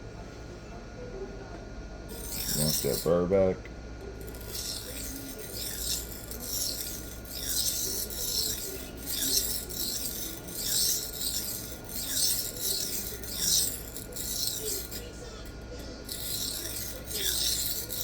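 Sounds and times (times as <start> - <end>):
knife rasping on sharpening plate: 2.1 - 3.2, 4.2 - 18.0.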